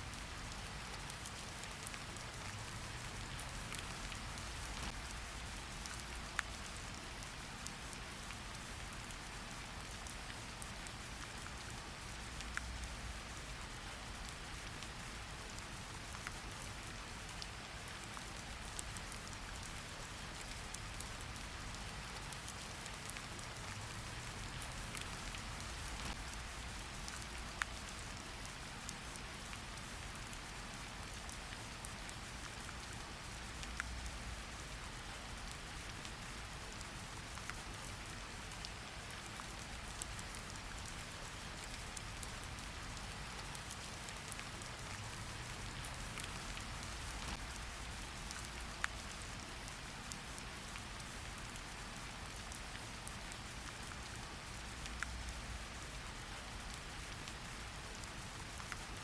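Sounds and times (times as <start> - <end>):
rain falling: 0.0 - 59.0
raindrops ticking on a surface: 0.1 - 59.0.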